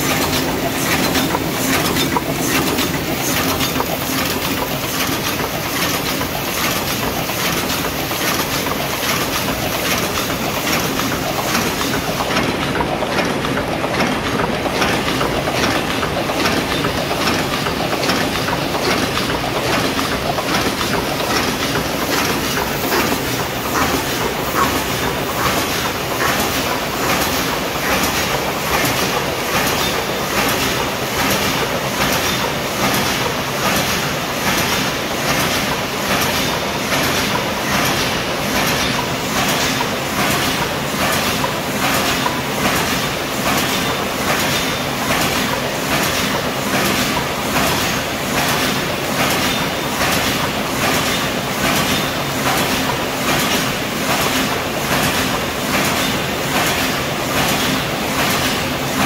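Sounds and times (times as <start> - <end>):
machine rhythmic mechanical clatter: 0.0 - 59.0.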